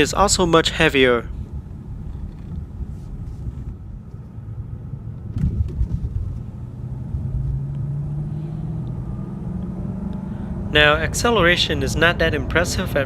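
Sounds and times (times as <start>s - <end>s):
low road rumble: 0.0s - 13.0s
car engine accelerating: 1.4s - 13.0s.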